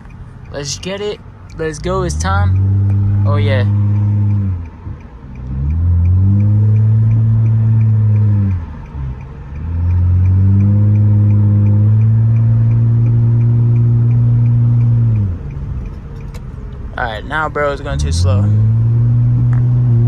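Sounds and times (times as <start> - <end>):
car exhaust under hard acceleration: 0.0 - 20.0.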